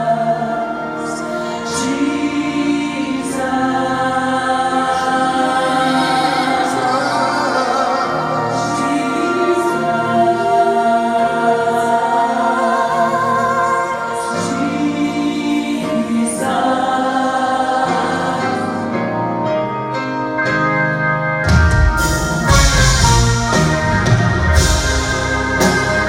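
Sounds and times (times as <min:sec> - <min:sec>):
choir singing: 0:00.0 - 0:20.3, 0:21.6 - 0:26.0.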